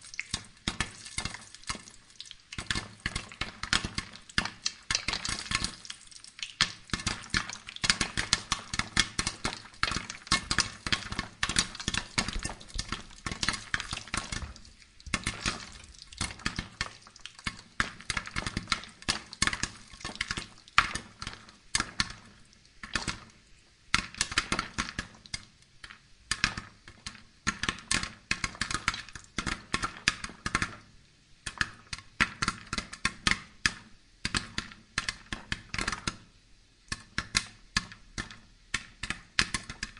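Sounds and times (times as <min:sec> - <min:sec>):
sharp crackles and clicks: 0:00.0 - 0:36.2.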